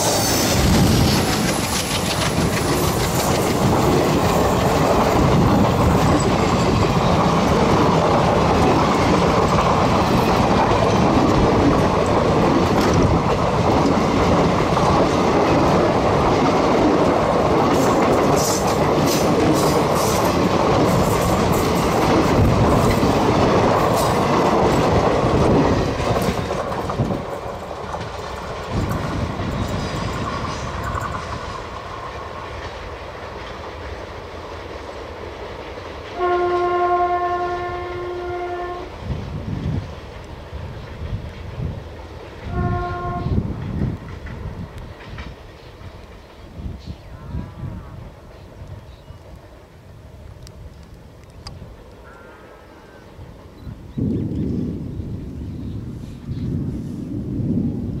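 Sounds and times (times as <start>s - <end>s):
train wheels rumbling and clacking: 0.0s - 58.0s.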